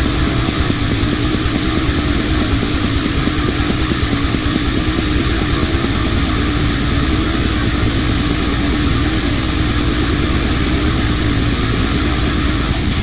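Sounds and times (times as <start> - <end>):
distorted guitar: 0.0 - 13.0
rapid drumming: 0.0 - 13.0.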